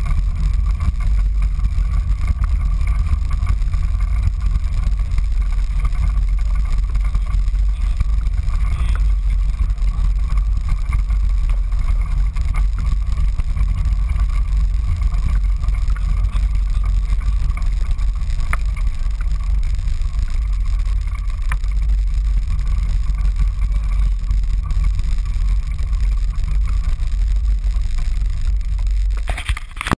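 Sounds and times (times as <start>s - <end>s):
kart engine idling: 0.0s - 29.7s.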